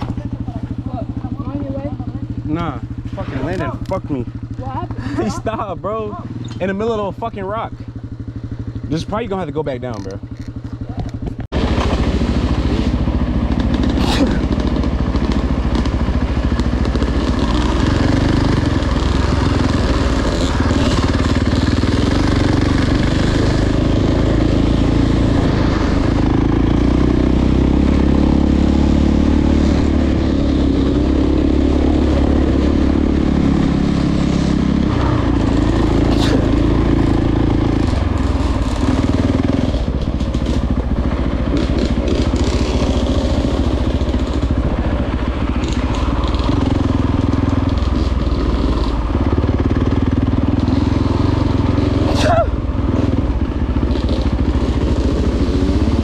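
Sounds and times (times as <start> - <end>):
dirt bike engine revving: 0.0 - 10.7, 11.5 - 56.0.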